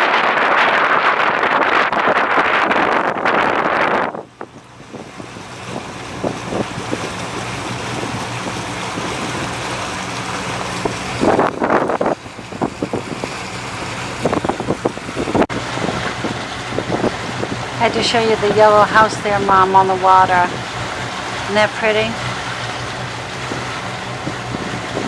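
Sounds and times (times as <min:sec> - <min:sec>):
motorboat engine humming: 0:00.0 - 0:25.0
rushing wind and water: 0:00.0 - 0:25.0
wind buffeting microphone: 0:00.0 - 0:25.0.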